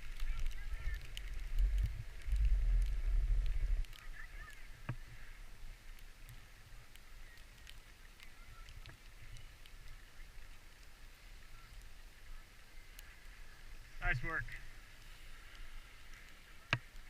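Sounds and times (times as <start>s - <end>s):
skis sliding on snow: 0.0s - 17.0s
wind rumbling on microphone: 0.0s - 17.0s.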